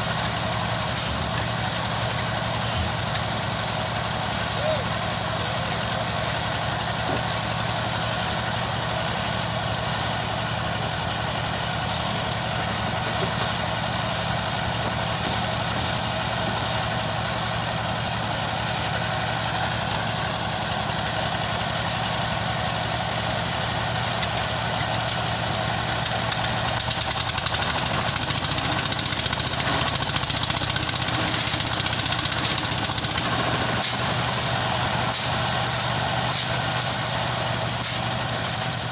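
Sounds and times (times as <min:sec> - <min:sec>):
heavy engine idling: 0:00.0 - 0:38.9
hiss and clatter: 0:00.0 - 0:38.9.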